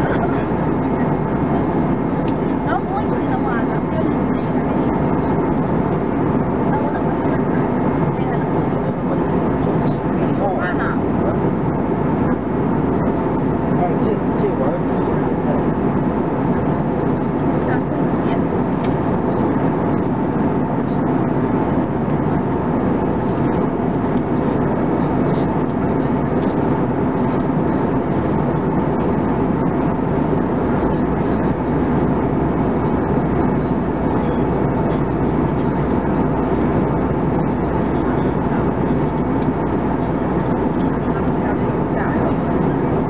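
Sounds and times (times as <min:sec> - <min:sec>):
jet engines humming: 0:00.0 - 0:43.0.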